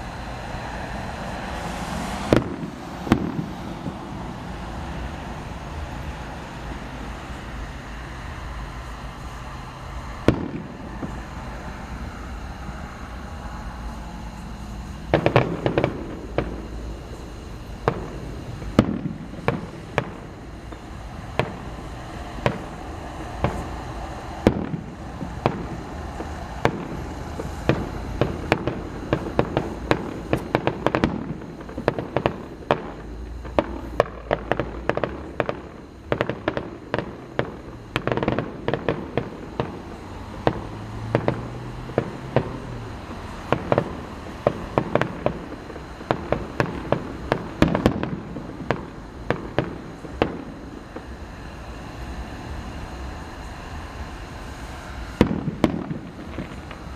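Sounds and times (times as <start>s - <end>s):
rapid firework crackling: 0.0s - 56.9s
firework shell bursts: 10.2s - 56.9s.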